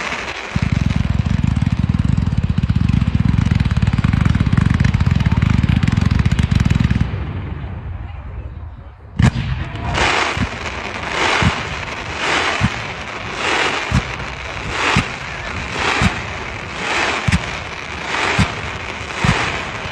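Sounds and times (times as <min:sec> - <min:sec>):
fireworks hissing crackle: 0:00.0 - 0:07.0, 0:09.2 - 0:19.9
fireworks banging: 0:00.0 - 0:08.2, 0:09.1 - 0:19.9.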